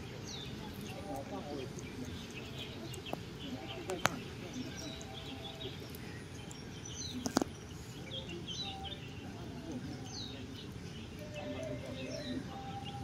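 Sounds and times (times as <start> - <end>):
low background noise: 0.0 - 13.0
small birds chirping: 0.0 - 13.0.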